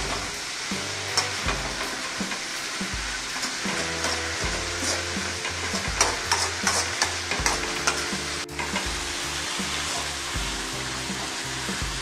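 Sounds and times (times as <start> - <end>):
ladle scraping pan: 0.0 - 10.3
leaves sizzling in hot oil: 0.0 - 12.0.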